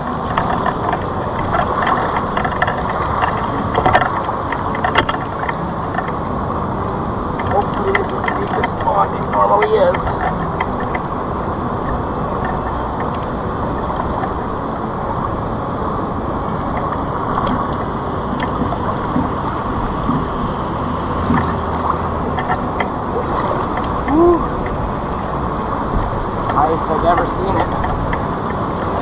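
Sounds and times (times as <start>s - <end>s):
river water rushing and splashing: 0.0s - 29.0s.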